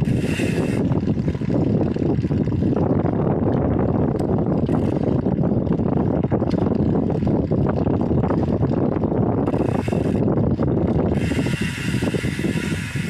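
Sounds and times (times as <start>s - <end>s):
bike tyres rolling rumble: 0.0s - 13.0s
wind buffeting microphone: 0.0s - 13.0s.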